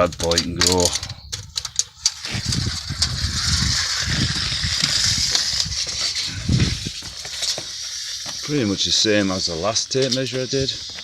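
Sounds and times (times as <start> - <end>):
tape measure blade pulled out: 1.6 - 11.0.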